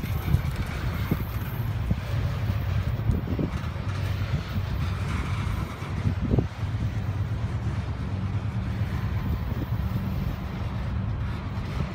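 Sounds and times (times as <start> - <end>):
steel wheels rumbling on rail: 0.0 - 11.9.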